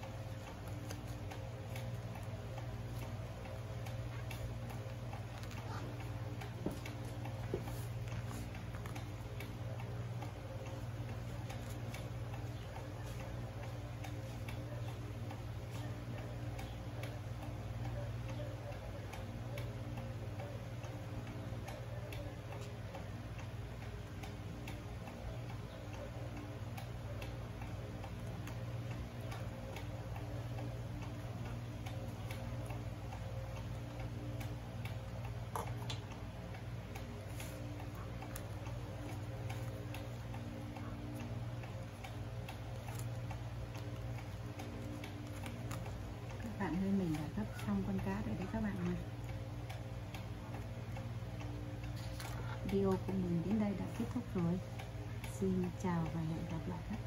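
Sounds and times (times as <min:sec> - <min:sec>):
regular light ticking: 0:00.0 - 0:57.0
steady low hum: 0:00.0 - 0:57.0.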